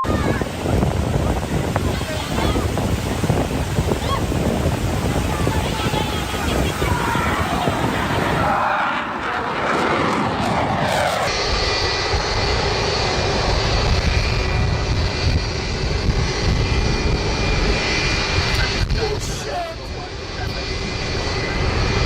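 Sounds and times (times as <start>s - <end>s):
aircraft engine running: 0.0s - 22.0s
high engine whine: 0.0s - 22.0s.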